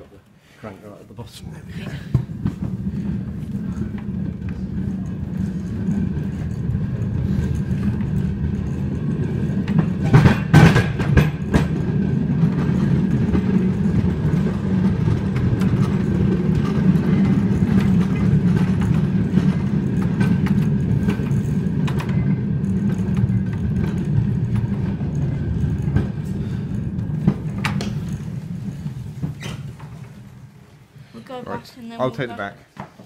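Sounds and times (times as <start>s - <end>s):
steel wheels rumbling on rails: 1.5s - 31.2s.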